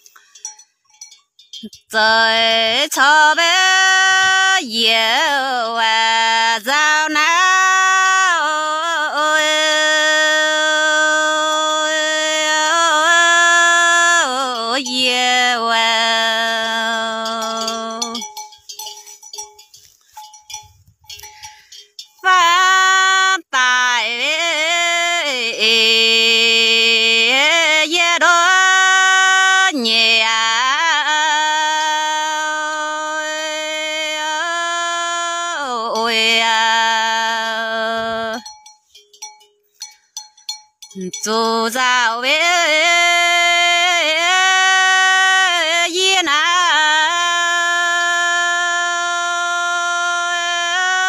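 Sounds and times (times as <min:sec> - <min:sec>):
person singing long wavering notes: 0:01.6 - 0:18.3, 0:22.1 - 0:38.5, 0:41.0 - 0:51.0.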